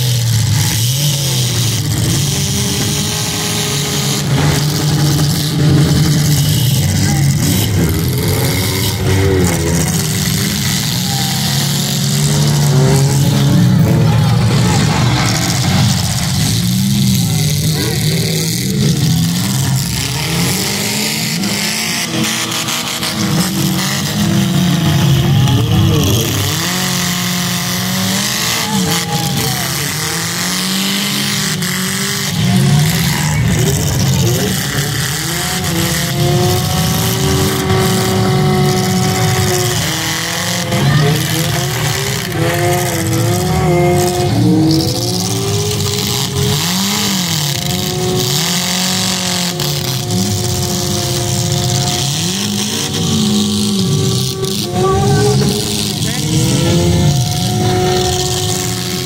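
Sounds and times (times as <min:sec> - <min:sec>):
car engines revving: 0:00.0 - 0:59.0
cars colliding: 0:01.4 - 0:54.8.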